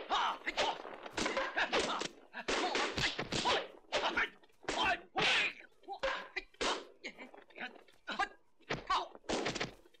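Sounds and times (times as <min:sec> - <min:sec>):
sharp whacks and blows: 0:00.0 - 0:07.0, 0:08.6 - 0:10.0
fighters grunting and shouting: 0:00.0 - 0:09.2.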